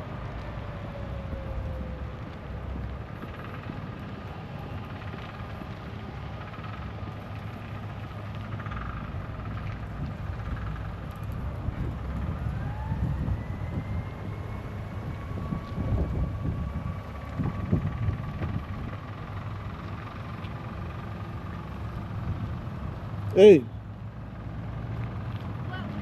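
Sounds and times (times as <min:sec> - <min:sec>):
distant sirens wailing: 0:00.0 - 0:26.0.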